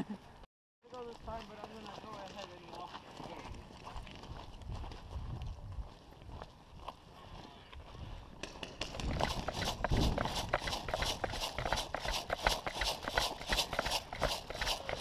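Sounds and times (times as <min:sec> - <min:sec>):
running footsteps on dirt: 0:00.8 - 0:15.0.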